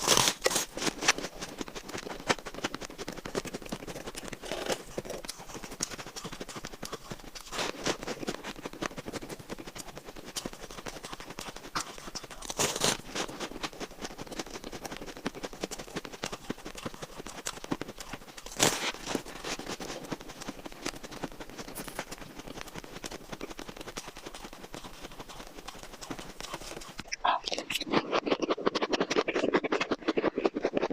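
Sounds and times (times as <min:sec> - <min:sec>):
crunching and chewing ice: 0:00.0 - 0:30.9.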